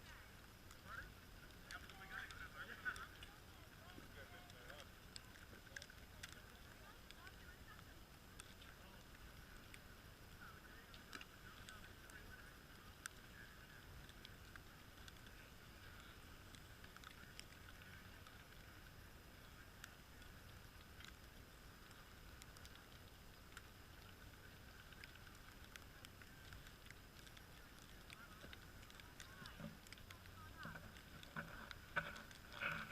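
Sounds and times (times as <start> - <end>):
small clicks: 0.0 - 32.9
soft hiss: 0.0 - 32.9.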